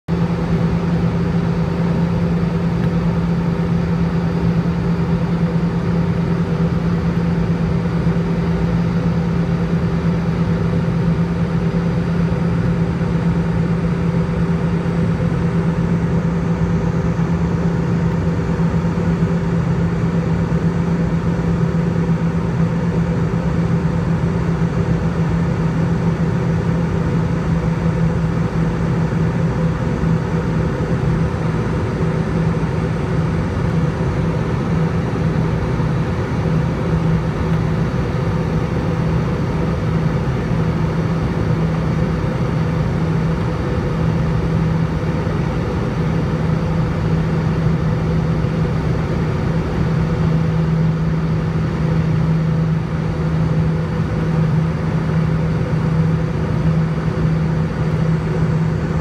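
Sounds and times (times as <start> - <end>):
airliner cabin engine drone: 0.1 - 59.0.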